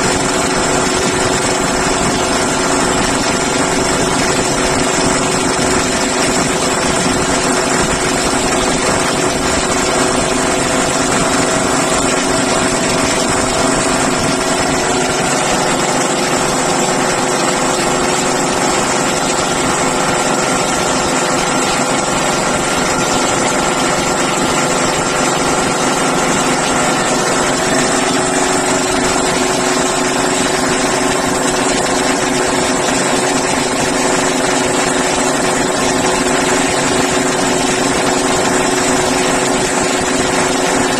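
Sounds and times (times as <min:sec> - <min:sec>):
air compressor drone: 0:00.0 - 0:40.9.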